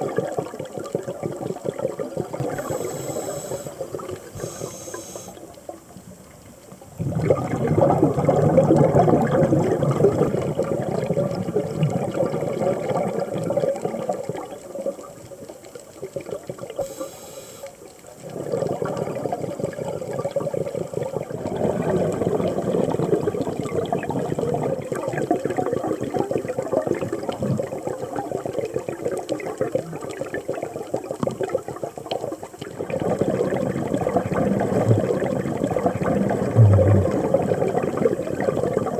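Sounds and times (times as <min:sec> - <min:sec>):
underwater regulator bubbles: 0:00.0 - 0:05.7, 0:06.9 - 0:17.6, 0:18.2 - 0:38.9.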